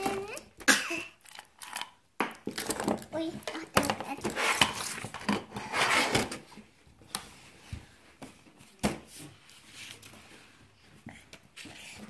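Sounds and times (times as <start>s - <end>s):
rustling of gifts and candy: 0.0s - 12.0s.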